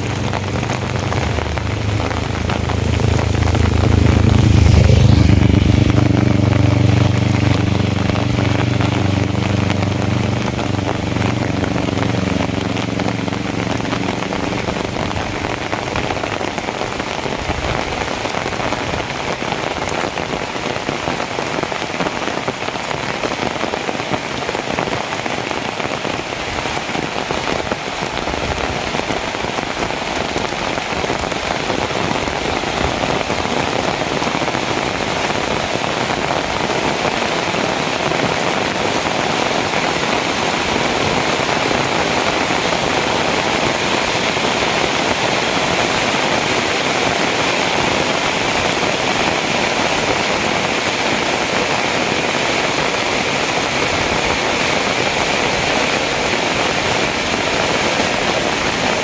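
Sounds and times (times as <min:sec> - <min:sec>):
heavy rain falling: 0:00.0 - 0:59.0
vehicle engine hum: 0:00.0 - 0:59.0.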